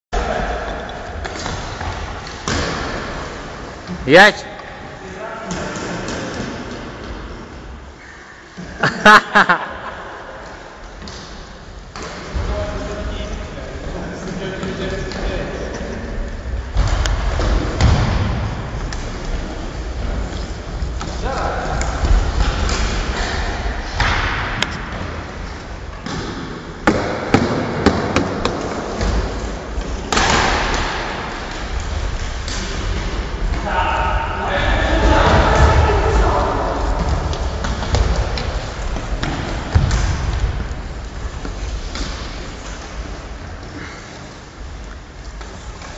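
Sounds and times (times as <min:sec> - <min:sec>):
play in echoing sports hall: 0:00.1 - 0:45.9.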